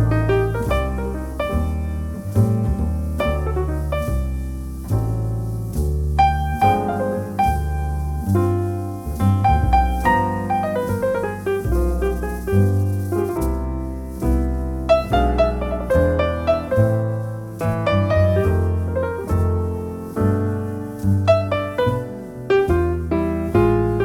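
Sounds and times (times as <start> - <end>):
jazz piano playing: 0.0 - 24.0.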